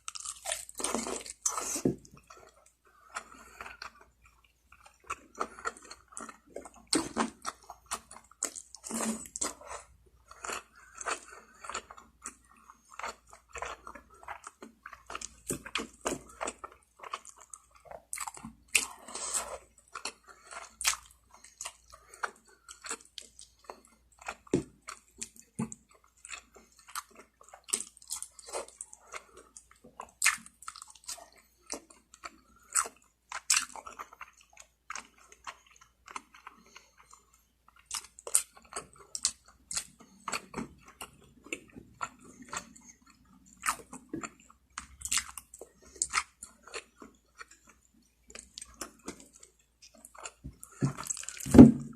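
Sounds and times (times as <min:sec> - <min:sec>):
person chewing: 0:00.0 - 0:51.9.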